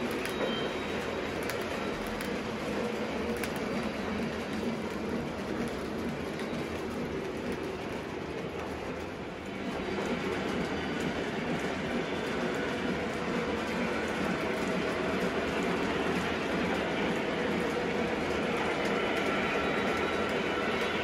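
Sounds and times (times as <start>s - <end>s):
model train wheels on rail: 0.0s - 21.0s.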